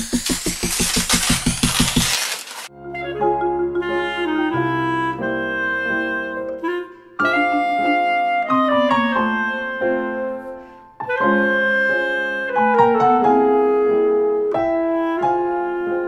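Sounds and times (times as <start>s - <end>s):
piano and keyboard music: 0.0s - 16.0s.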